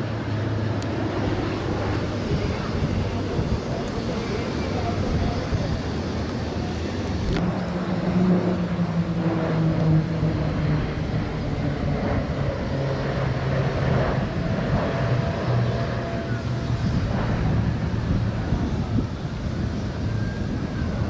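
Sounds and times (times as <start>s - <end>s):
turboprop aircraft droning past: 0.0s - 21.0s.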